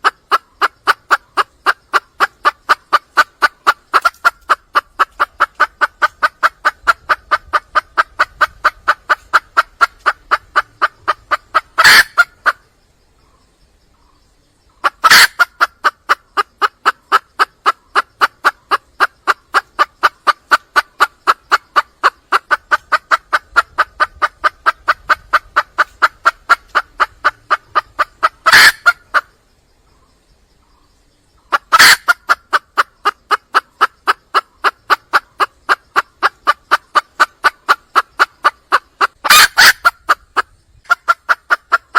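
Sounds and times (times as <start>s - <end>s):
hen clucking rapidly: 0.0s - 12.7s, 14.7s - 29.4s, 31.4s - 41.9s.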